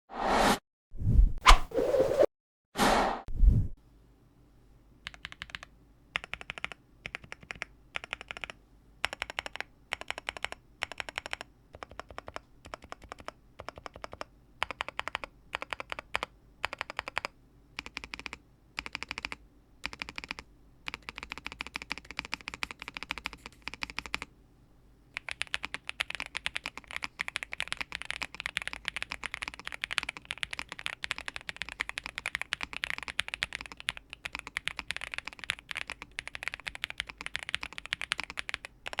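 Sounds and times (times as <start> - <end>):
mechanical keyboard typing: 5.0 - 24.3, 25.2 - 39.0.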